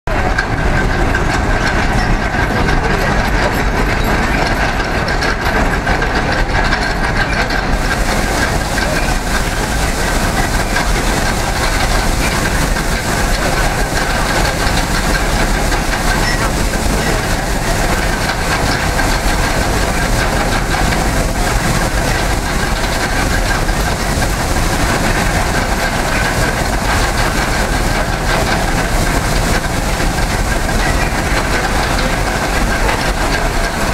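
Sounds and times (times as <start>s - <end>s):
horse-powered sweep clattering: 0.1s - 33.9s.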